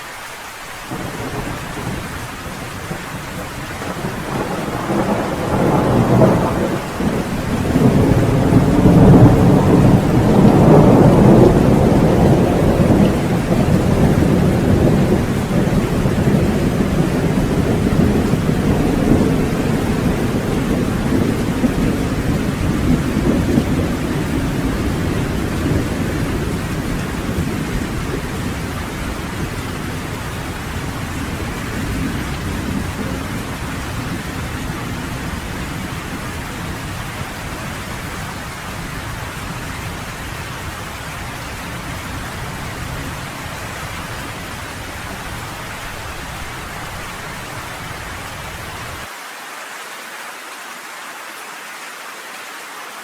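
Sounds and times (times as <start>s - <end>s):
heavy rain: 0.0s - 53.0s
rolling thunder rumble: 0.9s - 49.1s.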